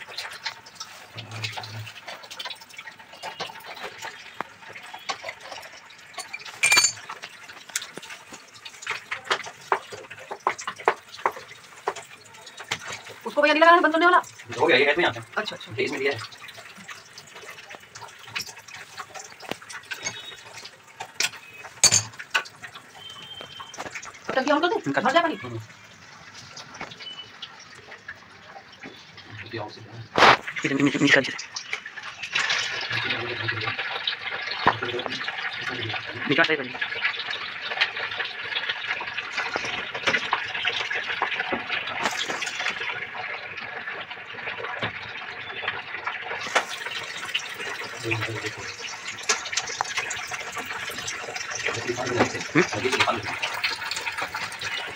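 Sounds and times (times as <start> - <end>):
water running: 0.0 - 54.9.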